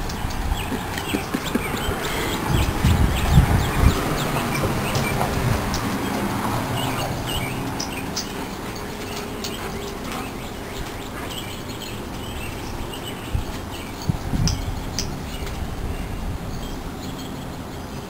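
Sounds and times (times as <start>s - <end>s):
small birds chirping: 0.0s - 18.0s
wind rumble on microphone: 0.0s - 18.0s.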